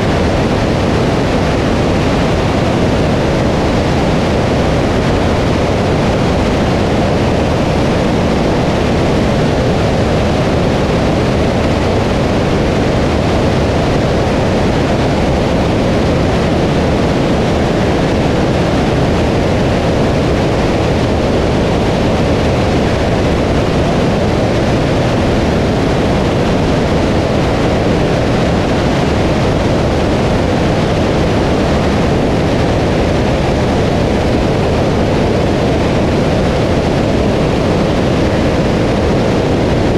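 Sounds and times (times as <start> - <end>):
light aircraft engine: 0.0 - 39.9
wind rush: 0.0 - 39.9.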